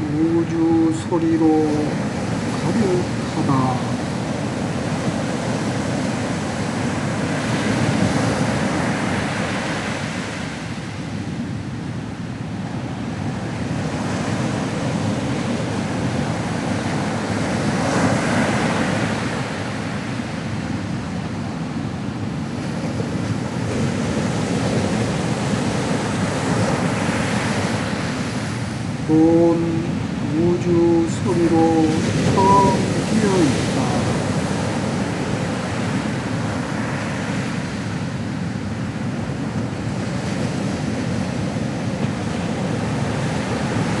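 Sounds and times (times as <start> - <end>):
ocean waves breaking on shore: 0.0 - 44.0.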